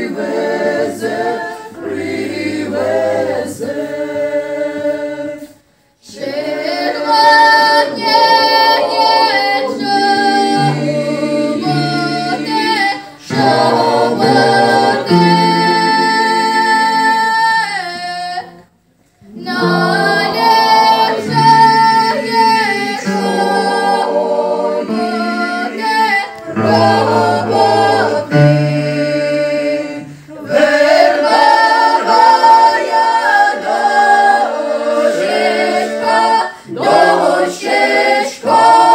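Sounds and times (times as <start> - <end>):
mixed choir singing a cappella: 0.0 - 38.9.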